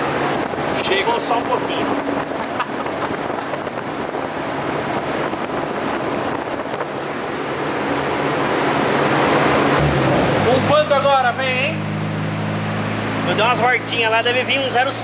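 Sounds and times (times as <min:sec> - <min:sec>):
turbocharged car engine running: 0:00.0 - 0:15.0.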